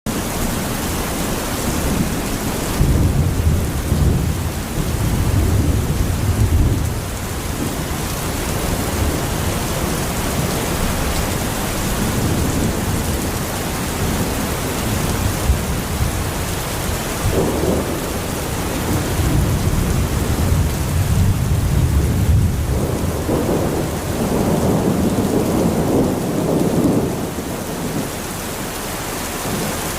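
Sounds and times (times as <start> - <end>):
thunder rumbles: 0.1 - 28.7, 29.4 - 29.9
heavy rain hissing: 0.1 - 29.9.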